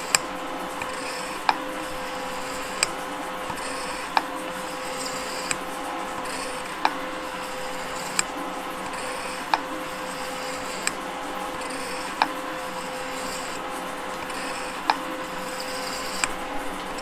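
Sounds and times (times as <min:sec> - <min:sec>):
metal shaper humming: 0:00.0 - 0:17.0
sharp mechanical clicks: 0:00.0 - 0:17.0.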